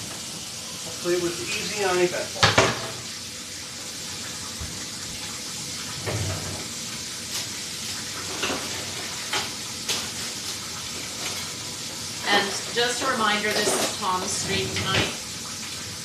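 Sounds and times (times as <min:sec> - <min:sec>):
steady kitchen hiss: 0:00.0 - 0:16.0.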